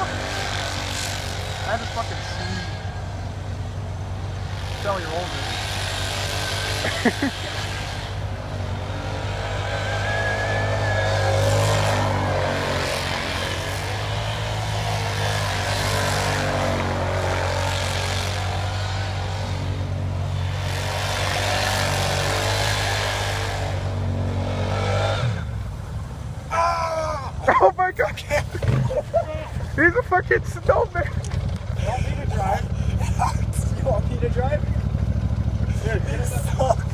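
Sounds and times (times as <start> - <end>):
vehicle engine revving: 0.0 - 26.5, 27.4 - 36.9.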